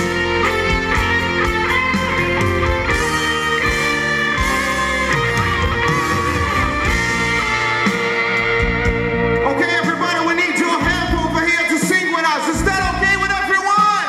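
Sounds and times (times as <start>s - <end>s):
live rock band instrumental: 0.0s - 14.0s.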